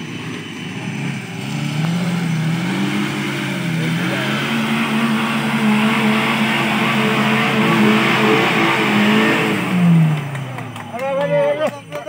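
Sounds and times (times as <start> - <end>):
engine revving under load: 0.0 - 11.3.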